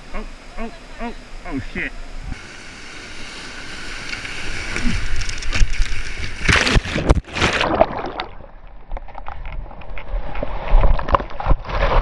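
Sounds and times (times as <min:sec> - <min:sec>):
water splashing around kayak: 0:02.2 - 0:12.0.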